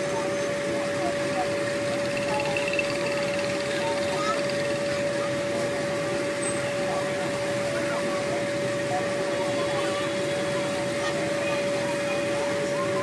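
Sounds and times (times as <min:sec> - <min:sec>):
faint distant voices: 0:00.0 - 0:13.0
steady machine hum: 0:00.1 - 0:13.0.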